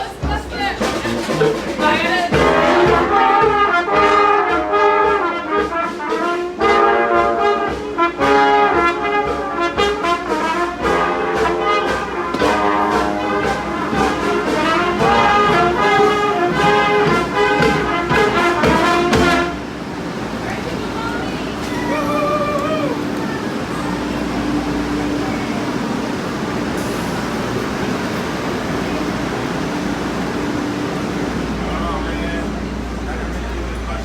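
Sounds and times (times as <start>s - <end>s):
brass band playing: 0.0s - 33.6s.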